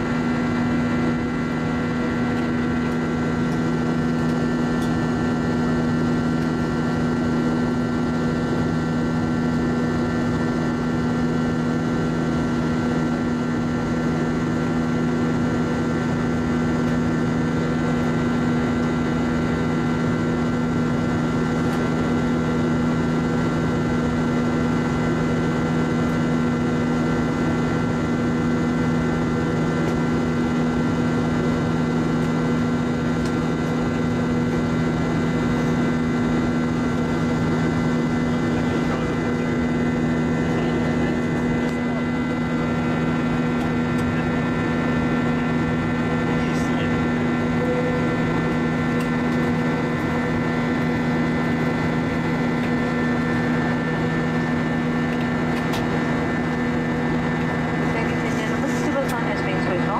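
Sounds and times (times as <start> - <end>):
jet engine hum: 0.0 - 59.9.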